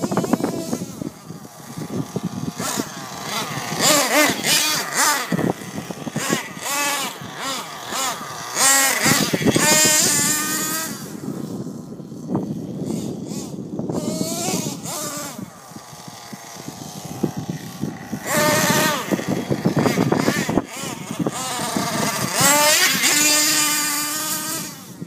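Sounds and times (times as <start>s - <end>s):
rc truck engine revving: 0.0s - 25.0s.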